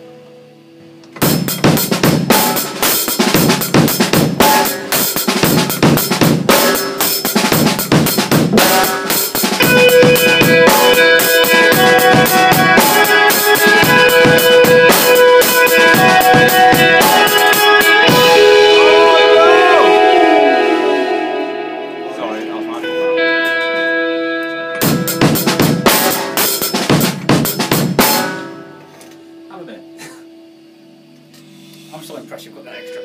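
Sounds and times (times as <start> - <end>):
backing track held notes: 0.0 - 31.3
drum kit played with sticks: 1.1 - 28.9.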